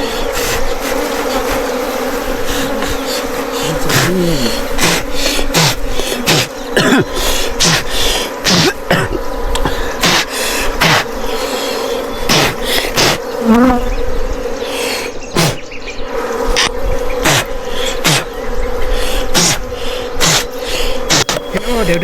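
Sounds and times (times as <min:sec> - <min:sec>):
bee swarm humming: 0:00.0 - 0:22.0
bees flying past: 0:00.0 - 0:22.0.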